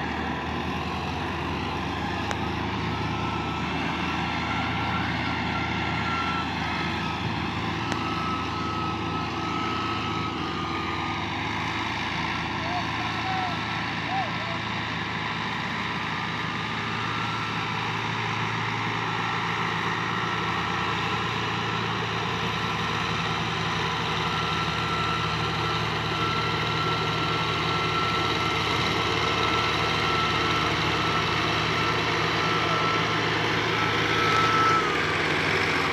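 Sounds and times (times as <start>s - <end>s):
diesel tractor engines under load: 0.0s - 35.9s.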